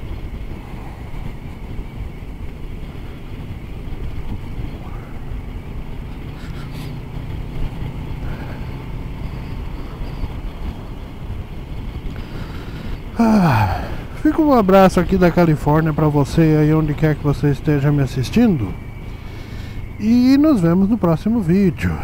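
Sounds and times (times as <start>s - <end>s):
wind rushing: 0.0s - 20.7s
motorcycle engine rumble: 0.0s - 22.0s.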